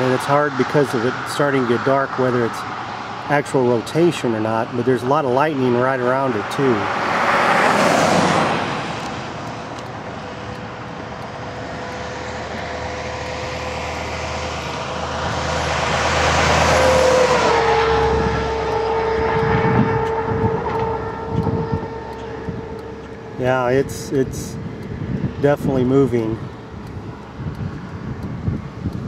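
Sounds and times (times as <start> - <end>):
cars passing on highway: 0.0 - 29.0.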